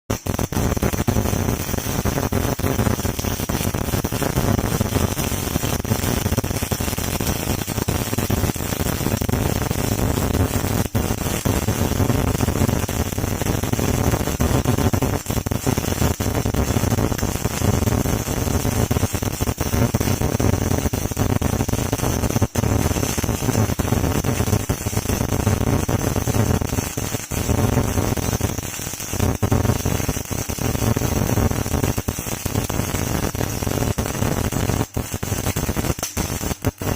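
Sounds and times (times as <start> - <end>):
welding arc crackling hiss: 0.0 - 36.9.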